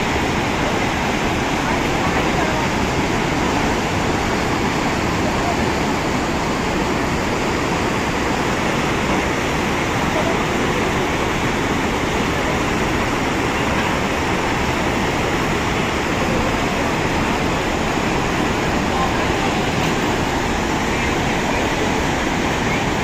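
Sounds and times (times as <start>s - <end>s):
rushing floodwater: 0.0s - 23.0s.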